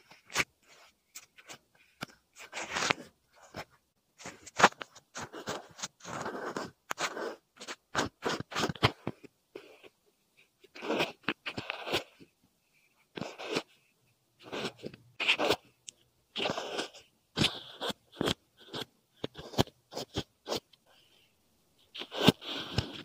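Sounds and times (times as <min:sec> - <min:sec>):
rustling and scratching strokes: 0:00.0 - 0:23.0.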